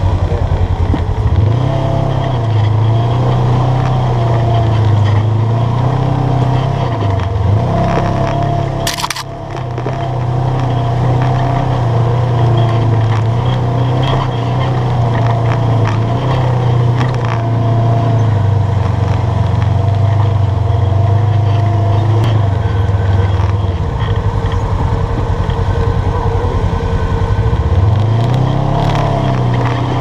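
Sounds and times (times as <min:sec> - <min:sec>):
utv engine running under load: 0:00.0 - 0:30.0.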